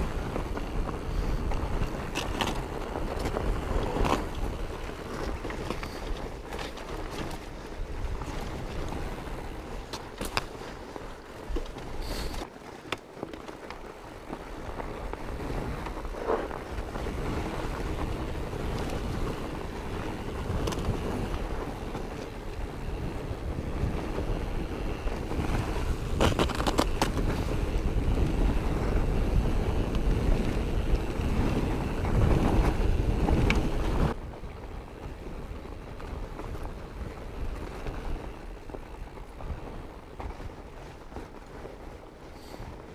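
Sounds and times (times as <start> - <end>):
wind rushing over microphone: 0.0 - 12.5, 14.0 - 42.9
bike tyres rolling: 0.0 - 42.9.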